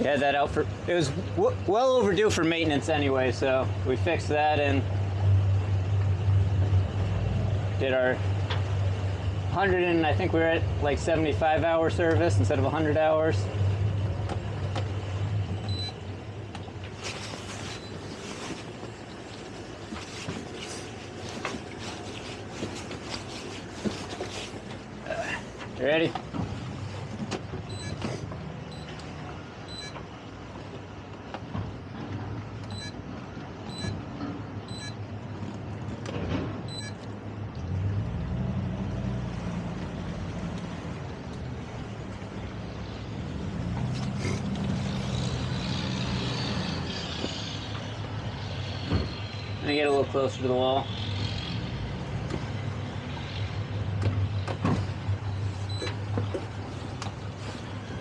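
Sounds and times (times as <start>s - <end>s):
boat engine humming: 0.0s - 58.0s.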